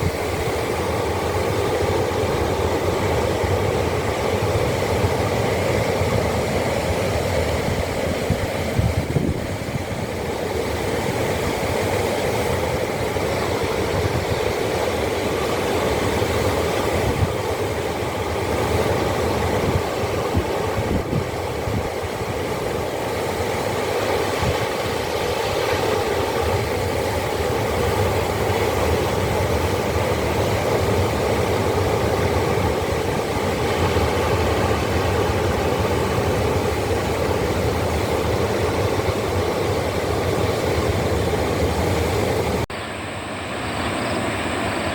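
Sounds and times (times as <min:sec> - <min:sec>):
surf rushing: 0:00.0 - 0:44.9.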